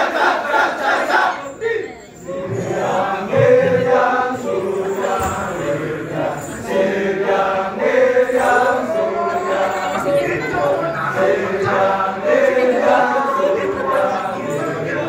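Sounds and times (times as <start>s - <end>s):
men chanting in unison: 2.3s - 15.0s.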